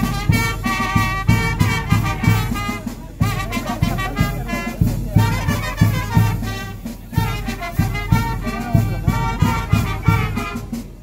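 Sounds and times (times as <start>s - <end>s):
brass band music: 0.0s - 11.0s.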